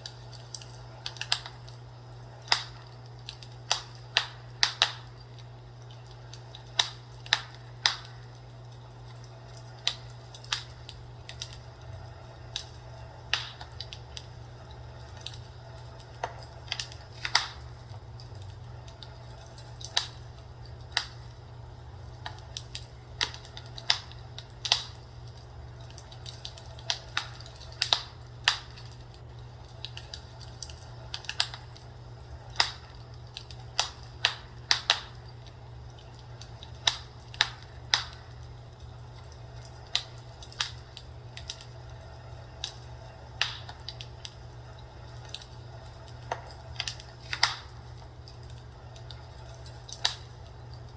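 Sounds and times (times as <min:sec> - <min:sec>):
fireplace crackling: 0:00.0 - 0:50.9
steady low hum: 0:00.0 - 0:50.9.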